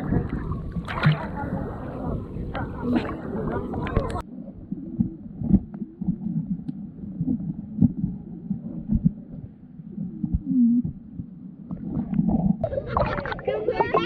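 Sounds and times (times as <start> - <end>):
muffled hum: 0.0 - 14.0
muffled underwater rumble: 0.0 - 14.0.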